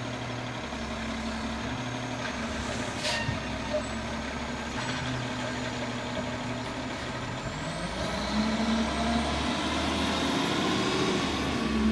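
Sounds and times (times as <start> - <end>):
garbage truck engine: 0.0 - 11.9.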